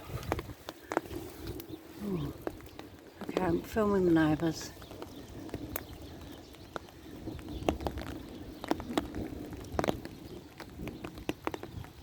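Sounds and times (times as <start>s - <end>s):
storm wind rumble: 0.0s - 12.0s.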